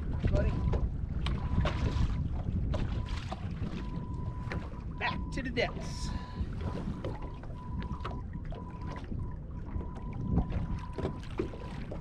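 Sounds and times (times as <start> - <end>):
knocks and clicks in boat: 0.0 - 5.2, 6.5 - 12.0
water lapping around boat: 0.0 - 12.0
wind: 0.0 - 12.0.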